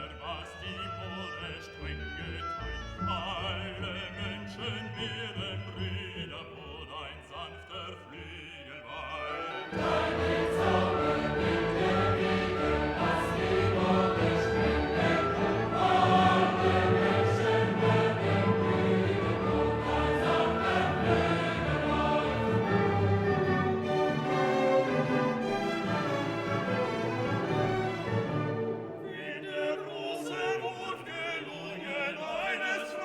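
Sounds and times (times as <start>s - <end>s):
music with choir singing: 0.0s - 33.0s.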